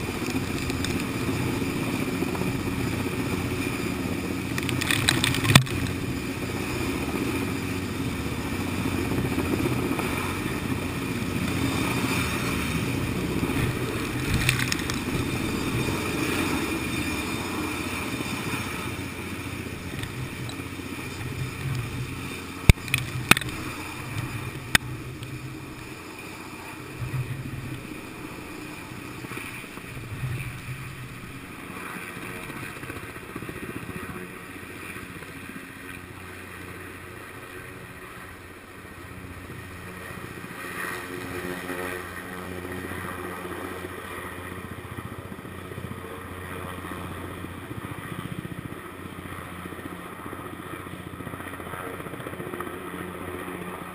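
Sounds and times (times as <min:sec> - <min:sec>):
helicopter droning overhead: 0:00.0 - 0:53.9.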